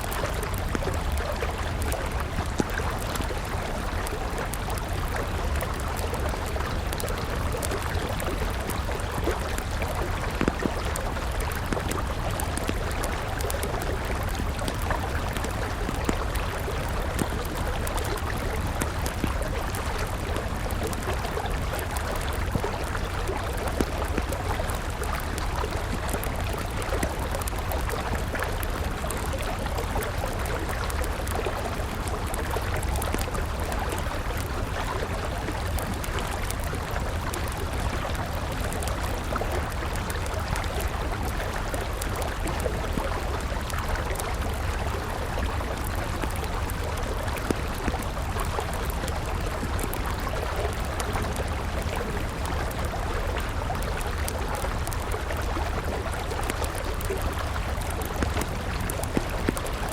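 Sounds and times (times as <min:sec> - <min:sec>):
campfire crackling: 0:00.0 - 0:59.9
river water flowing: 0:00.0 - 0:59.9.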